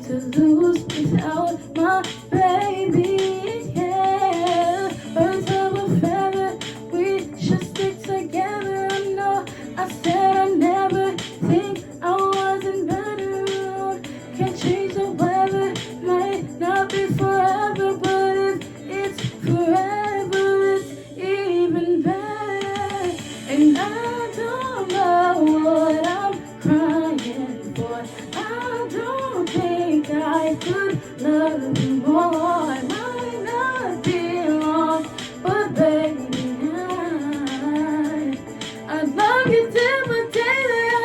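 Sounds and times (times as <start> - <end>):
woman singing pop song: 0.0 - 41.0.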